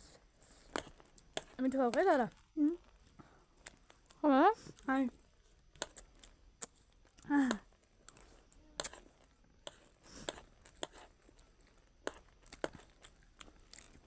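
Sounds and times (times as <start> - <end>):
person eating crunchy snack: 0.5 - 1.6, 2.3 - 14.0.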